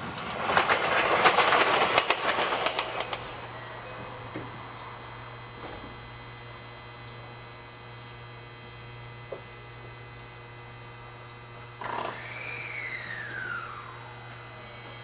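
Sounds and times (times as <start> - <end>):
faint electrical whine: 0.0 - 15.0
railcar electrical hum: 0.0 - 15.0.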